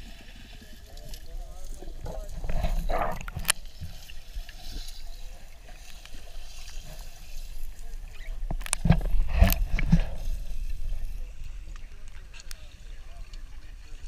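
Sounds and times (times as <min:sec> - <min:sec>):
muffled water sloshing: 0:00.0 - 0:14.0
water splashes: 0:00.0 - 0:14.0.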